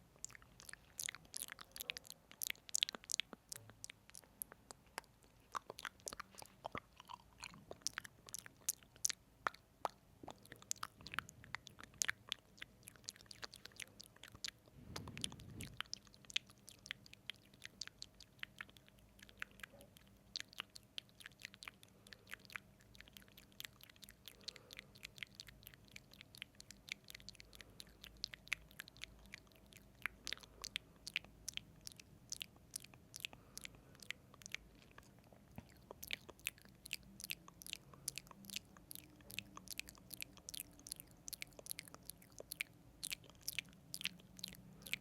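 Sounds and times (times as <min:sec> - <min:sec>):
tongue clicks: 0:00.0 - 0:45.0
wet lip smacks: 0:00.2 - 0:45.0.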